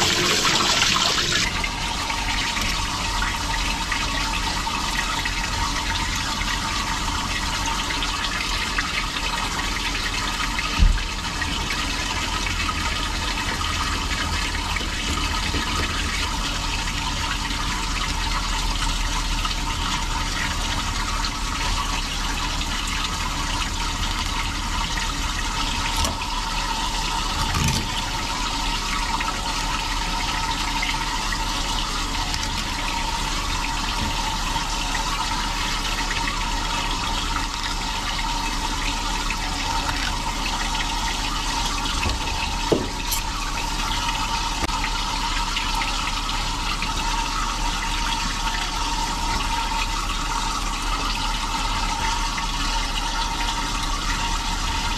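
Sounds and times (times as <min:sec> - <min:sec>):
water running from a tap: 0:00.0 - 0:54.9.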